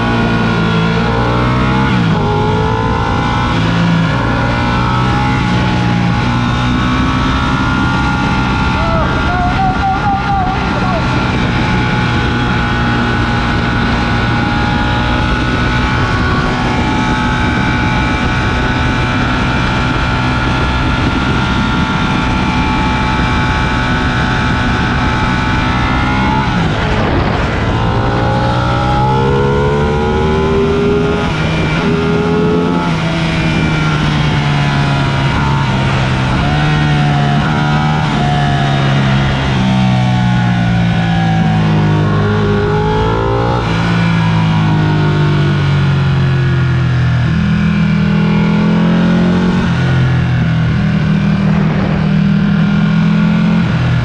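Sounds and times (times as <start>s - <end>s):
motorcycle engine revving: 0.0s - 54.0s
wind rushing over microphone: 0.0s - 54.0s.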